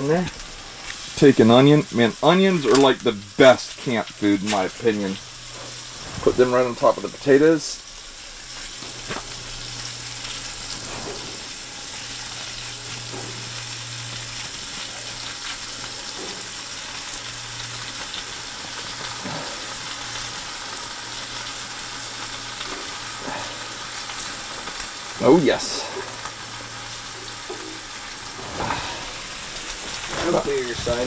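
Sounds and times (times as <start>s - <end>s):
low stove hum: 0.0s - 31.0s
vegetables sizzling in a pan: 0.0s - 31.0s.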